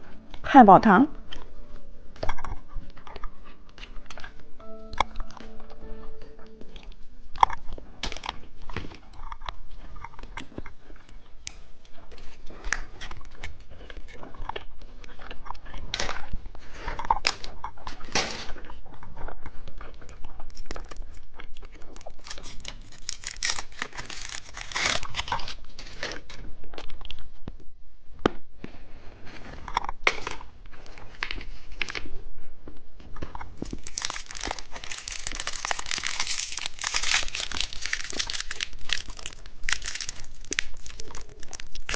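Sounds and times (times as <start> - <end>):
plastic wrappers crinkling and tearing: 1.2 - 27.4, 29.3 - 32.1, 33.0 - 41.9.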